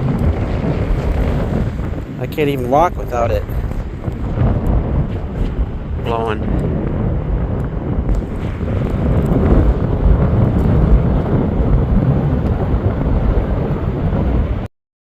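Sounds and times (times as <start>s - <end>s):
wind buffeting the microphone: 0.0s - 14.7s.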